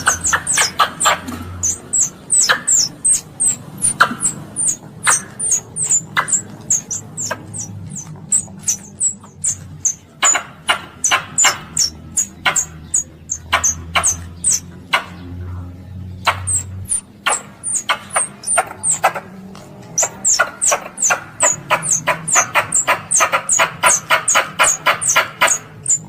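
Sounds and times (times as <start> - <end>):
squirrel calling: 0.0 - 15.4, 16.2 - 26.0.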